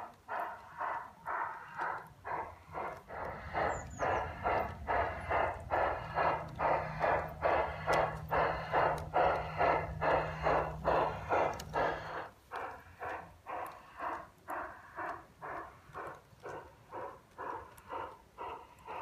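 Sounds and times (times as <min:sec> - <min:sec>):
low steady hum: 0:00.0 - 0:18.8
model steam locomotive chuffing: 0:00.0 - 0:19.0.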